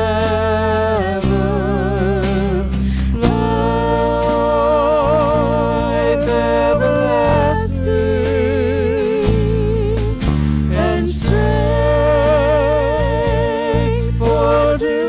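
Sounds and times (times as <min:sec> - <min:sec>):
electric bass: 0:00.0 - 0:15.0
voices singing with vibrato: 0:00.0 - 0:15.0.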